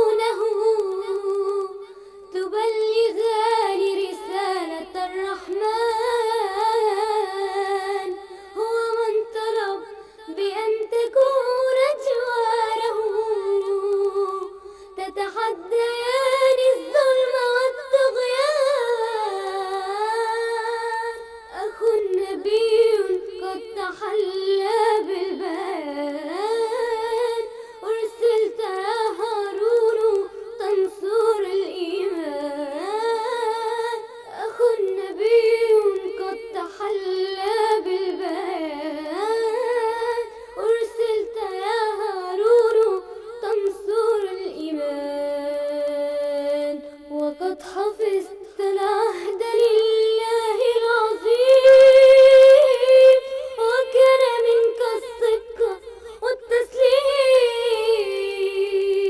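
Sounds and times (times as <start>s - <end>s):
solo voice singing slow melody: 0.0s - 59.0s.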